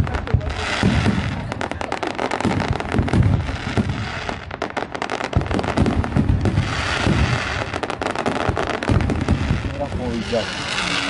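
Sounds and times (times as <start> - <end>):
fireworks crackling: 0.0 - 11.0
low fireworks booms: 0.0 - 11.0.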